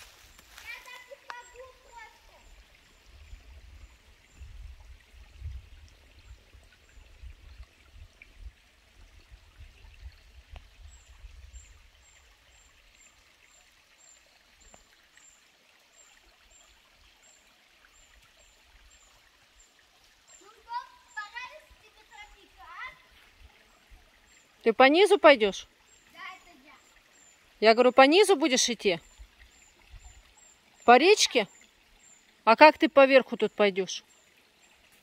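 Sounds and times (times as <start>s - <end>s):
stream water running: 0.0s - 35.0s.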